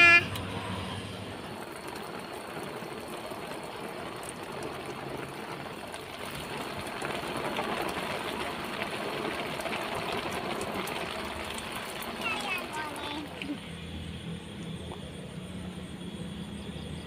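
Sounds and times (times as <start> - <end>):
steady rain falling: 0.0 - 16.5.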